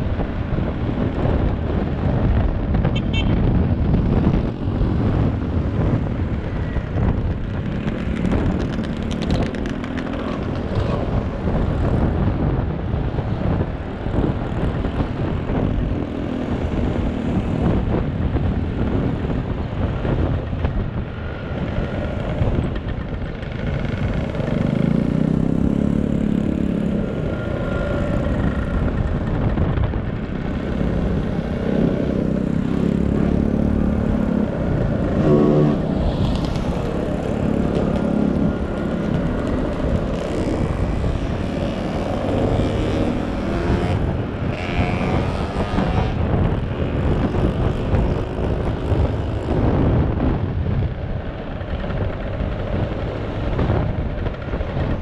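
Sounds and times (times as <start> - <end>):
motor scooter engines running: 0.0 - 55.0.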